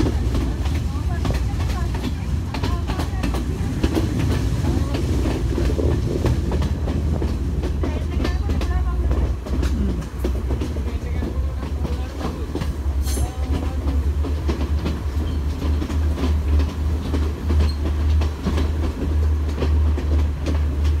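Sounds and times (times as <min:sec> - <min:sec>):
train carriage rumbling: 0:00.0 - 0:21.0
wheels clicking over track: 0:00.0 - 0:21.0.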